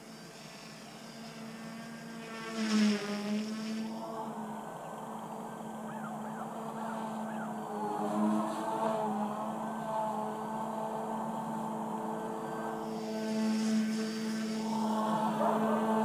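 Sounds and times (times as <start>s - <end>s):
rc helicopter motor whine: 0.0s - 16.0s.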